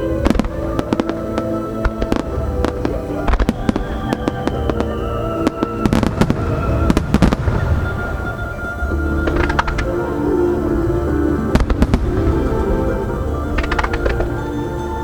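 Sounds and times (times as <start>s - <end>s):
fireworks cracks and bangs: 0.0s - 10.2s, 11.5s - 14.6s
continuous fireworks rumble: 0.0s - 15.0s
music playing: 0.0s - 15.0s.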